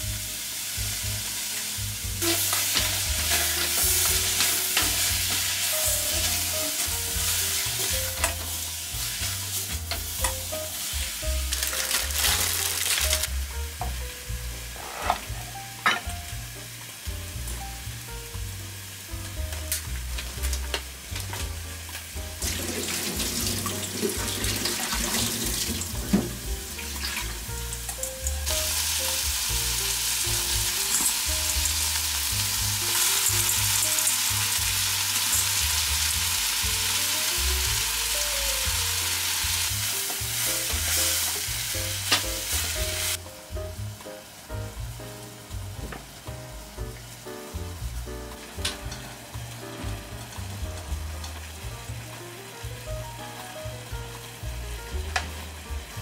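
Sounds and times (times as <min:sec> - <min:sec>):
onions sizzling in a pan: 0:00.0 - 0:56.0
soft background music: 0:00.0 - 0:56.0.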